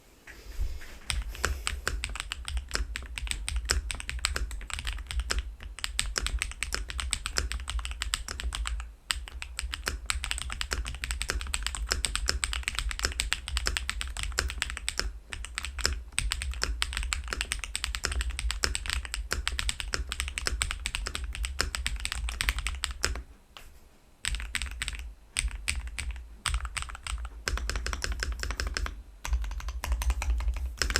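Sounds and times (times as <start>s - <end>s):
mechanical keyboard typing: 1.1s - 23.2s, 24.2s - 30.9s.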